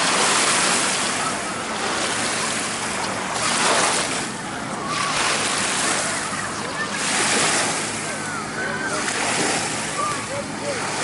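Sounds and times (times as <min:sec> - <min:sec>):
waves lapping on sandy shore: 0:00.0 - 0:11.0.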